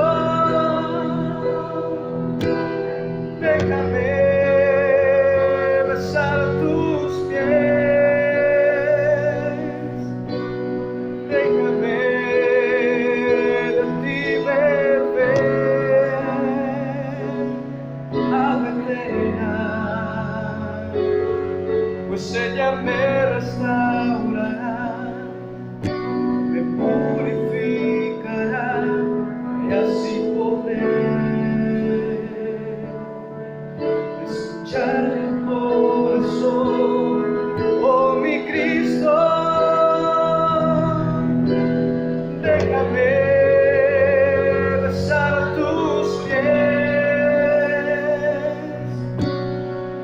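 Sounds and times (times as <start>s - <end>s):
instrumental accompaniment: 0.0s - 50.0s
person singing worship song: 0.0s - 50.0s.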